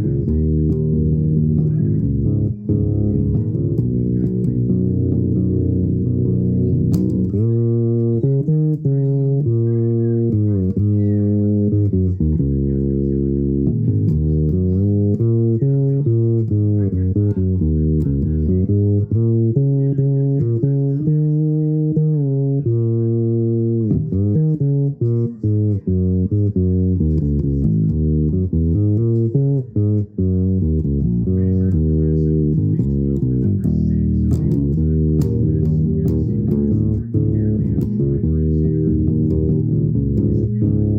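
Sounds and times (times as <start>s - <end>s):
low instrumental music: 0.0s - 40.9s.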